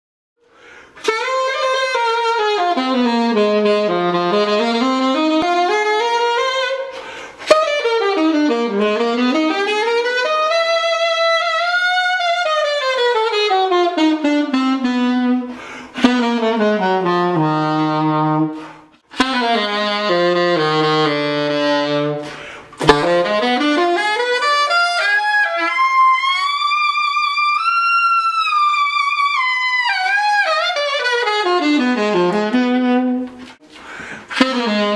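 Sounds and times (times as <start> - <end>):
solo saxophone melody: 0.6 - 34.9.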